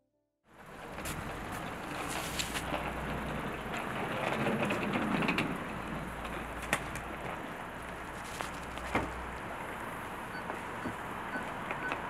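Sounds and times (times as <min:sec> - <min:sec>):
suitcase wheels rolling on pavement: 0:00.5 - 0:11.9
street noise: 0:00.5 - 0:12.0.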